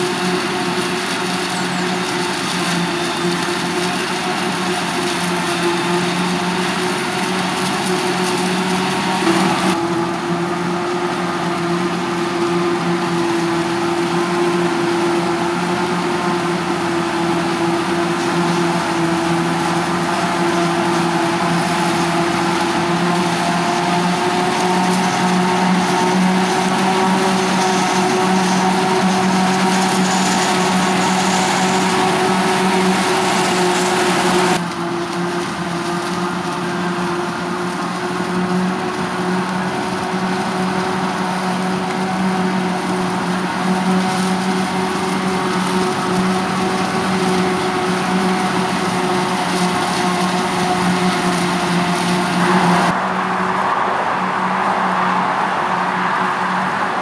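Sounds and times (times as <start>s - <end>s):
forage harvester humming and whining: 0.0s - 57.0s
tractor engines: 0.0s - 57.0s.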